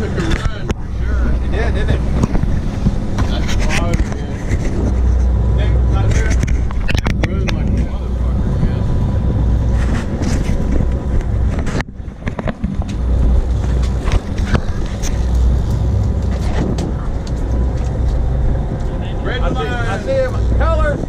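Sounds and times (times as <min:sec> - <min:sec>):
boat engine rumbling: 0:00.0 - 0:21.0
wind noise on microphone: 0:00.0 - 0:21.0.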